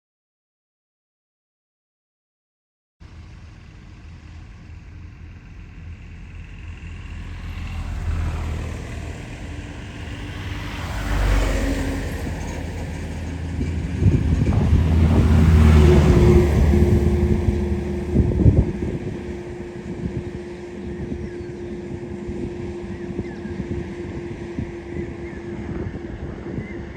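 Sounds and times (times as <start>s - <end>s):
road noise: 3.0s - 26.9s
vehicle engine: 3.0s - 26.9s.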